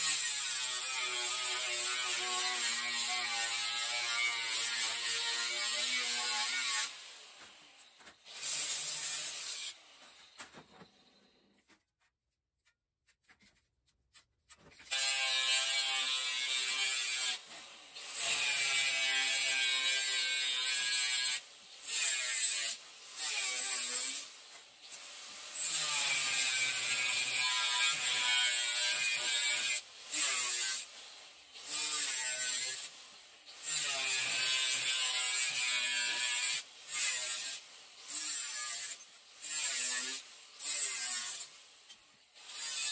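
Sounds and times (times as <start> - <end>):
angle grinder cutting steel: 0.0 - 9.8, 14.9 - 30.9, 31.6 - 41.6, 42.4 - 42.9.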